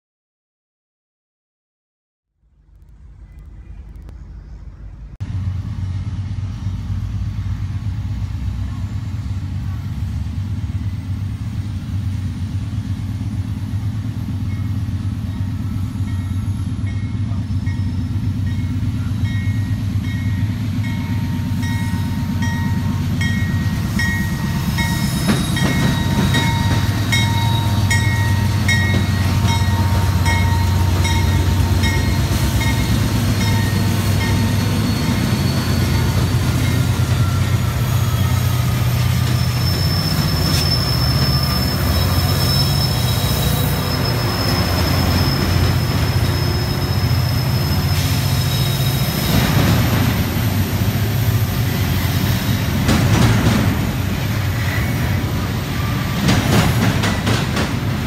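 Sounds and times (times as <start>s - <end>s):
diesel locomotive engine rumble: 2.3s - 58.0s.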